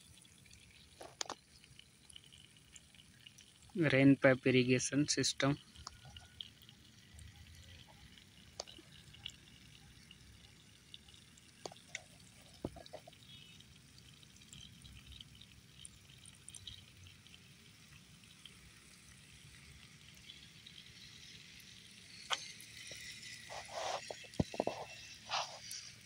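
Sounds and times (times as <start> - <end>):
drip-like ticks: 0.0 - 26.0
water spraying from irrigation line: 0.0 - 26.0.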